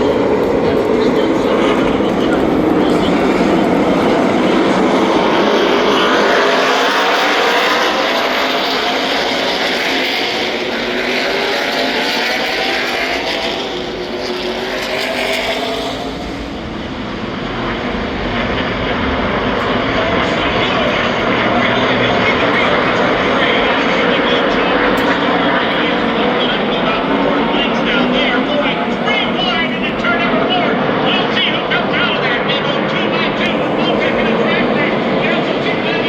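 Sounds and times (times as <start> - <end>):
race truck engines passing: 0.0 - 36.0.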